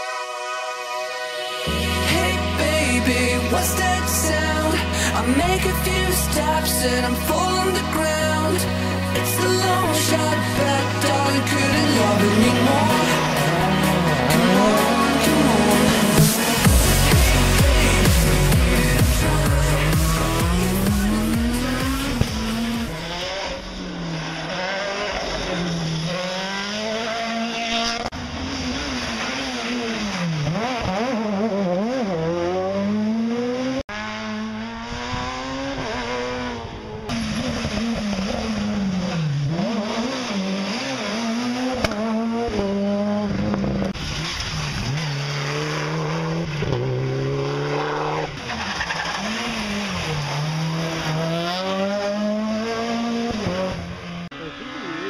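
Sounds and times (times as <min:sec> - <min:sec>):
rally car engines revving: 0:01.6 - 0:55.0.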